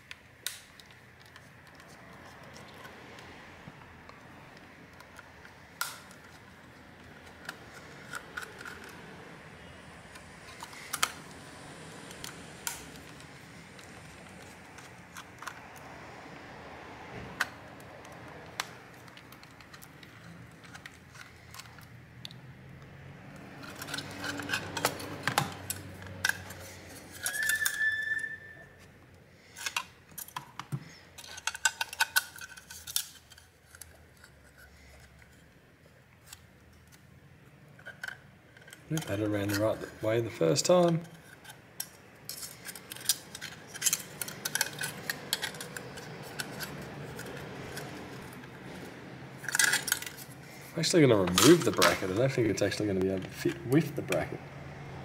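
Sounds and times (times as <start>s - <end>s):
small metallic clicks and scrapes: 0.0s - 16.0s, 17.3s - 37.1s, 37.7s - 54.4s.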